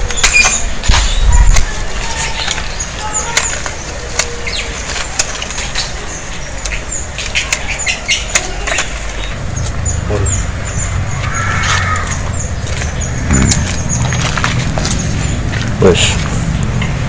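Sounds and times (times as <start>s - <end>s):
leaves rustling: 0.0s - 17.0s
low rumble of branch handling: 0.0s - 17.0s.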